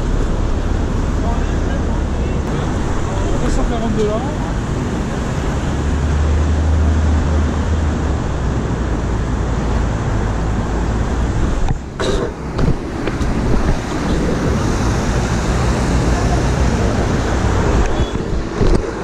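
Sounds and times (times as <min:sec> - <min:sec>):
wind rushing: 0:01.8 - 0:19.0.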